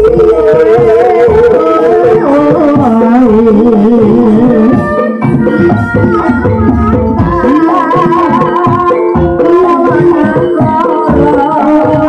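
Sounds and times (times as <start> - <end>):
gamelan instruments: 0.0 - 12.0
hand drums: 0.0 - 12.0
wavering melody with vibrato: 0.0 - 12.0.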